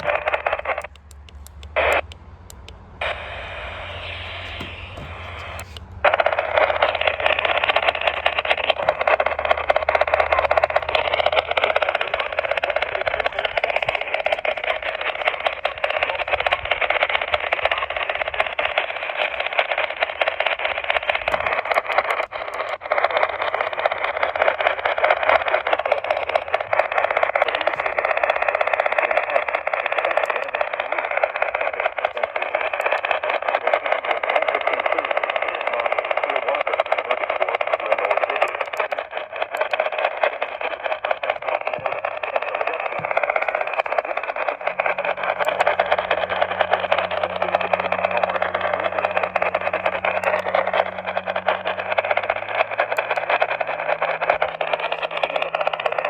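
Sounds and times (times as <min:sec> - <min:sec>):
radio static hiss and crackle: 0:00.0 - 0:56.0.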